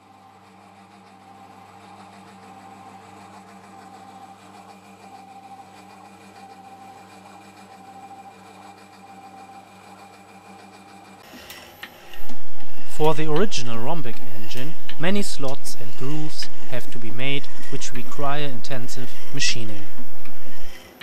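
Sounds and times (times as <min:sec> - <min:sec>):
metal lathe humming: 0:00.0 - 0:21.0.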